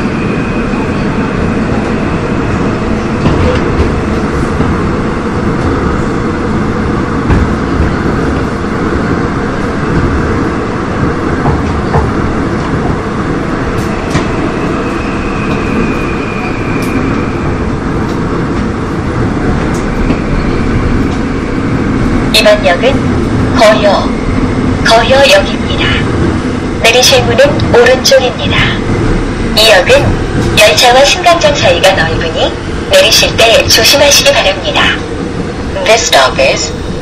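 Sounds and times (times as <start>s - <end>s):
subway train rolling rumble: 0.0s - 37.0s.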